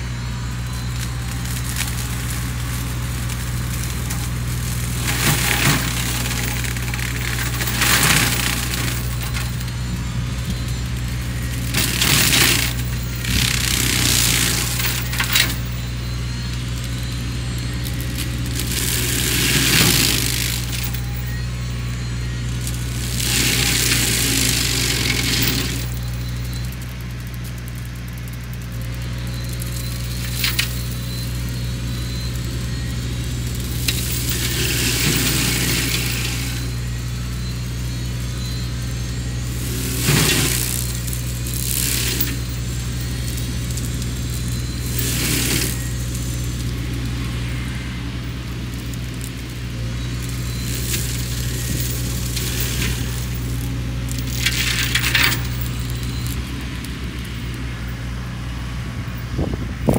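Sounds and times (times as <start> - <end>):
diesel engine running under load: 0.0 - 59.9
flail mulcher working through brush: 0.0 - 59.9.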